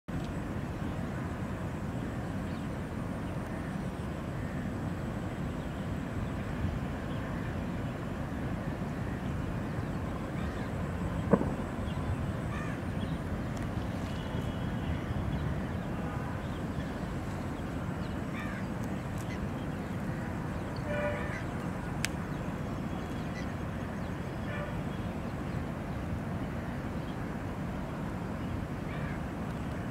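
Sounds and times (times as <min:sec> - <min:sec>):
distant city traffic rumble: 0:00.1 - 0:29.9.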